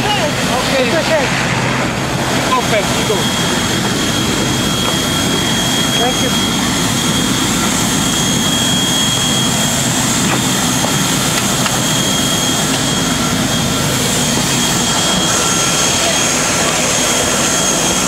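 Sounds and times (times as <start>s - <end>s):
high-pitched whine: 0.0s - 18.0s
jet turbine roar: 0.0s - 18.0s.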